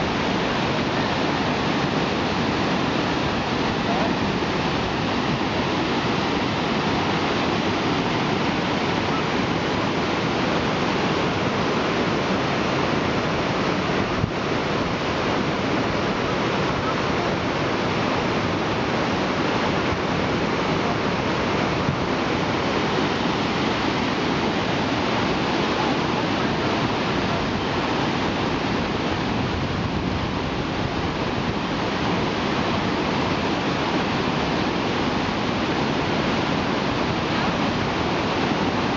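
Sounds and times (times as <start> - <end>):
rapids rushing over boulders: 0.0 - 38.9.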